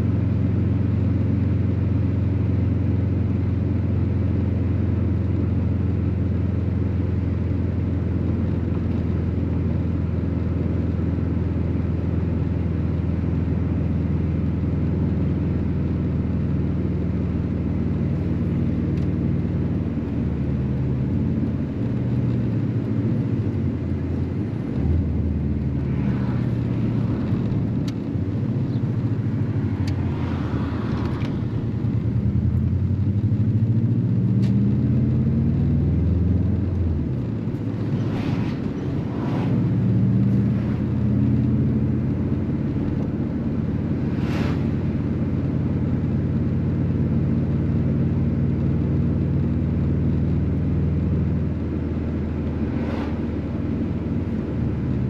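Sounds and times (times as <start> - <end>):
car engine running: 0.0 - 55.0
road noise: 0.0 - 55.0.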